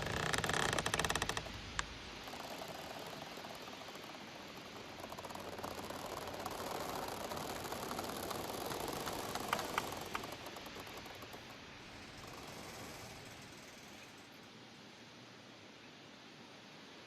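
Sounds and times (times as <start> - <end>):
bamboo creaking in wind: 0.0 - 15.1
steady rustle: 0.0 - 15.3.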